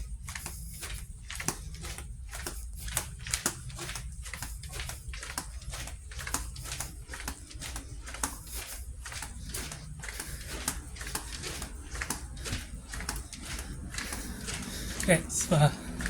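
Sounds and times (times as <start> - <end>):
footsteps on hard floor: 0.0 - 16.0
steady low hum: 0.0 - 16.0.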